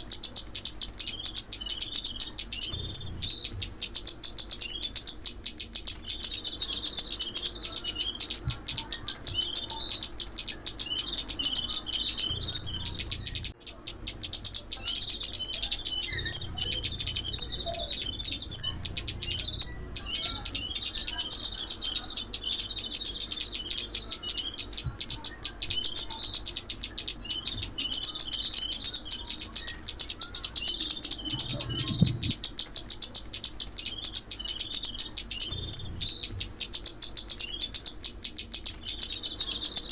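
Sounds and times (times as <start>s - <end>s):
songbird twittering chirps: 0.0s - 39.9s.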